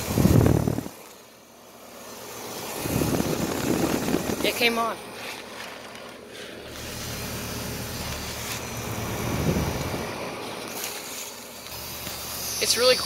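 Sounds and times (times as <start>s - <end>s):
fan air rushing: 0.0s - 13.0s
heat pump compressor hum: 0.0s - 13.0s.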